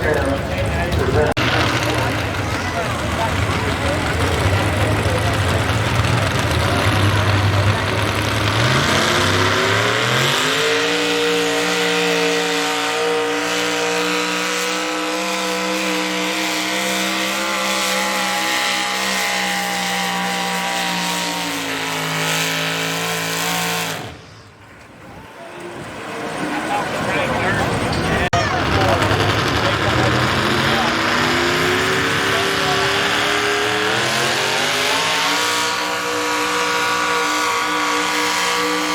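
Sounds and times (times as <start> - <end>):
truck engine revving at full throttle: 0.0 - 38.9.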